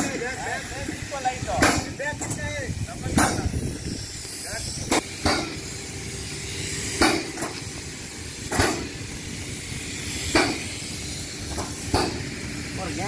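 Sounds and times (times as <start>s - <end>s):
sharp blasts of hiss from pumps: 0.0s - 13.0s
spray rig steady hiss: 0.0s - 13.0s.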